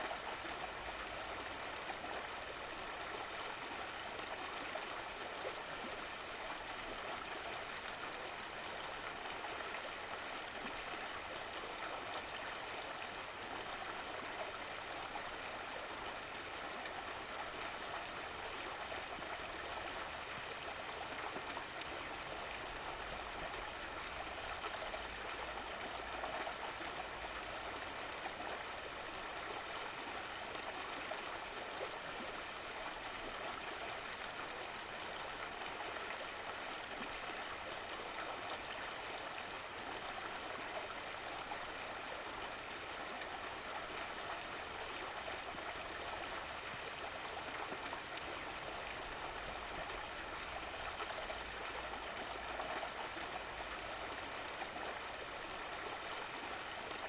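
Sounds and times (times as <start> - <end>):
stream flowing and trickling: 0.0 - 57.0.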